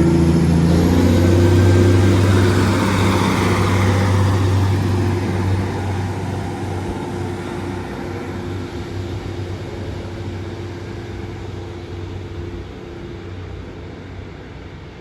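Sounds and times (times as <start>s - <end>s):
diesel train engine drone: 0.0s - 15.0s.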